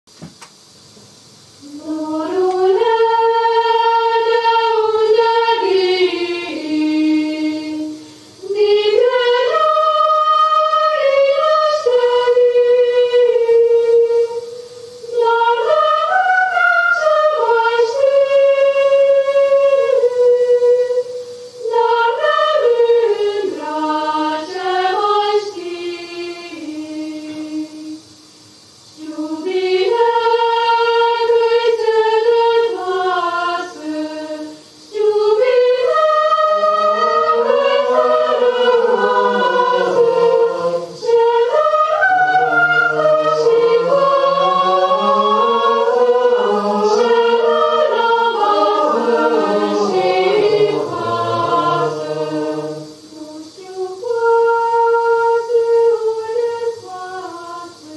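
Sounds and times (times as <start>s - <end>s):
choir singing a cappella: 1.4s - 57.9s.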